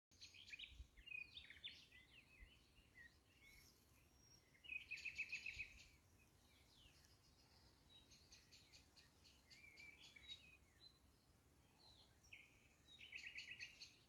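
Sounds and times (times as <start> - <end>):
small birds chirping: 0.1 - 14.0.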